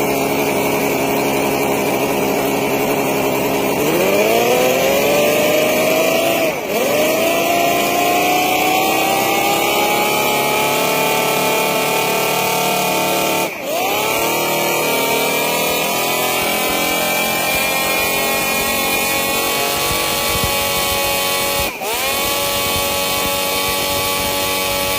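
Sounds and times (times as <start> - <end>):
small motor whining: 0.0 - 24.9.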